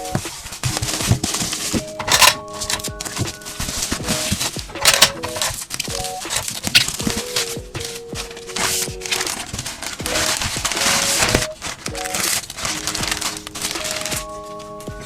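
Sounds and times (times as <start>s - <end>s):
background music: 0.0s - 15.0s
packaging crinkling: 0.3s - 14.7s.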